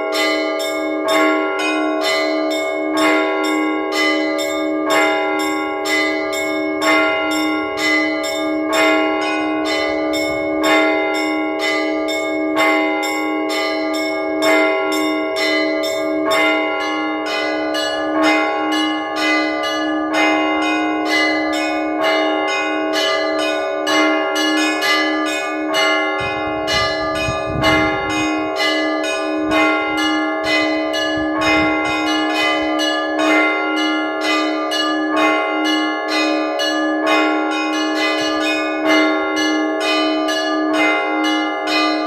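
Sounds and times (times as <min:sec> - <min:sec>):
large bell humming: 0:00.0 - 0:42.0
small church bells ringing: 0:00.0 - 0:42.0.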